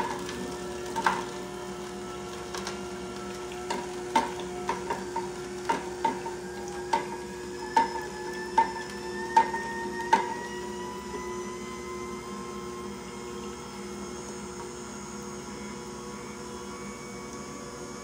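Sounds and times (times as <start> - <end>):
juicer motor hum: 0.0 - 18.0.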